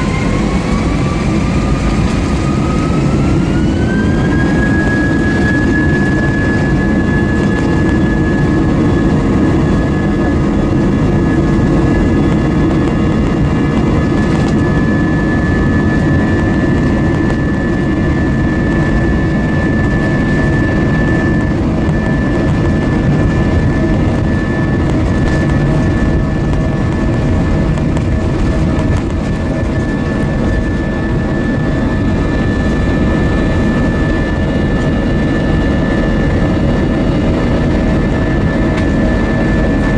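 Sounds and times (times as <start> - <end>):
airliner cabin rumble: 0.0 - 39.9
jet engine whine: 0.0 - 39.9.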